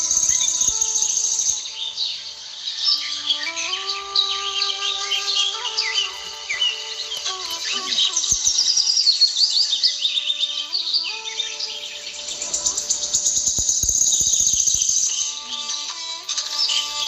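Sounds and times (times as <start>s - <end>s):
birds chirping: 0.0s - 17.0s
insect trill: 0.0s - 17.0s
soft background music: 0.0s - 17.0s.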